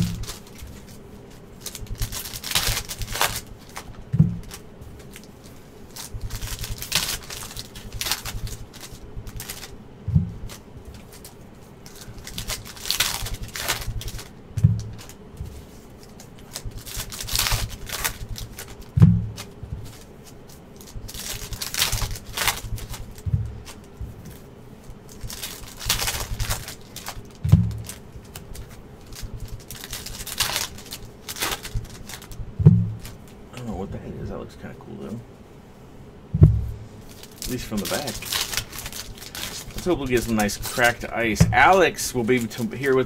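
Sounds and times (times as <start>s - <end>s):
card packs tearing and crinkling: 0.0s - 9.8s, 10.4s - 33.4s, 37.0s - 43.0s.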